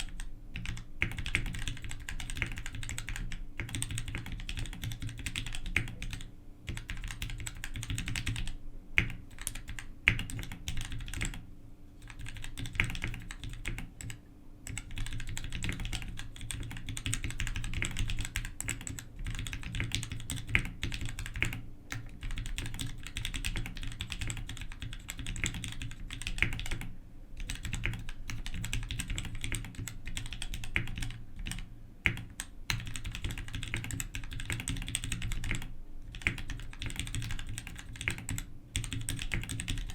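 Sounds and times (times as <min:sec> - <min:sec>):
typing on mechanical keyboard: 0:00.0 - 0:11.4, 0:12.0 - 0:39.9.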